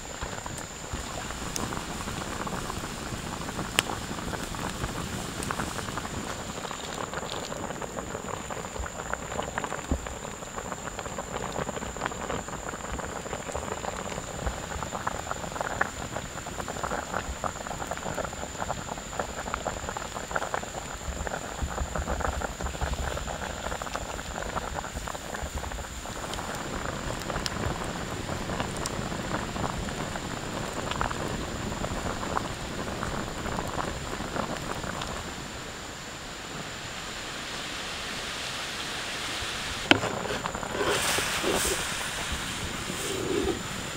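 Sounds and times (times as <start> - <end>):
sauce bubbling and sizzling in wok: 0.0 - 43.9.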